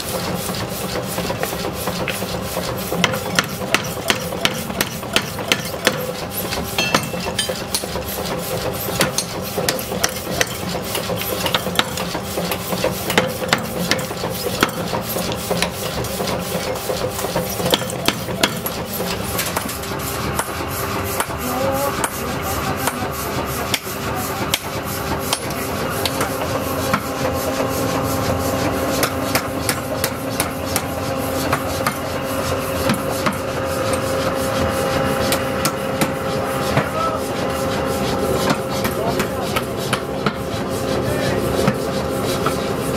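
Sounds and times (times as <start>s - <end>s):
power hammer striking steel: 0.8s - 21.4s, 22.0s - 27.5s, 28.9s - 40.9s.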